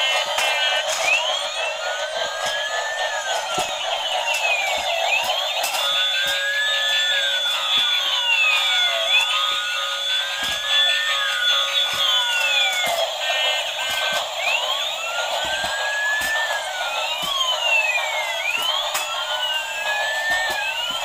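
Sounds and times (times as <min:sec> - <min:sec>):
toy siren wailing: 0:00.0 - 0:21.0.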